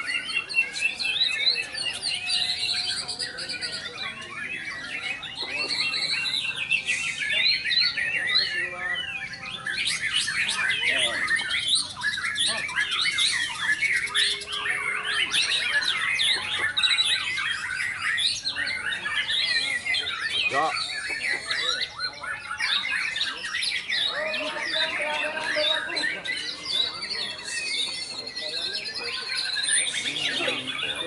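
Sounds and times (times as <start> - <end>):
songbirds chirping and squawking: 0.0 - 31.0.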